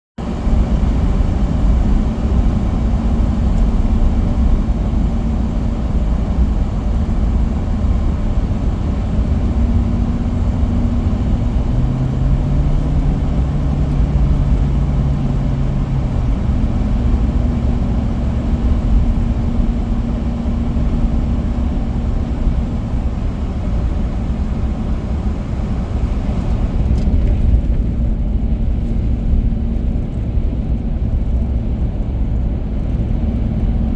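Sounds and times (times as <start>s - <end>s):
car driving rumble: 0.2s - 33.9s.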